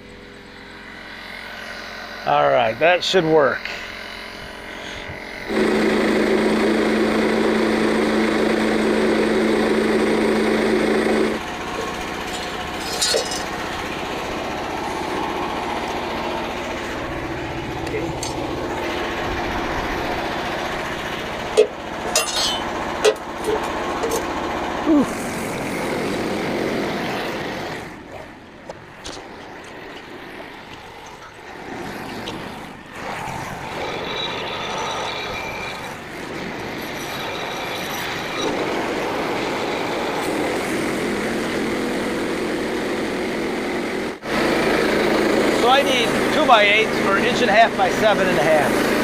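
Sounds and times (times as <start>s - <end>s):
band sawmill cutting log: 0.0s - 49.0s.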